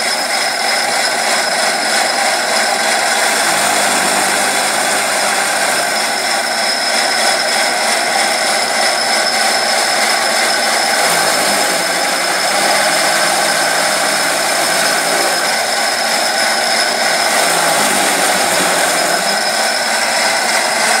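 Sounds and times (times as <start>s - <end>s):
chaff cutter whining: 0.0s - 21.0s
chaff rushing from chute: 1.5s - 21.0s.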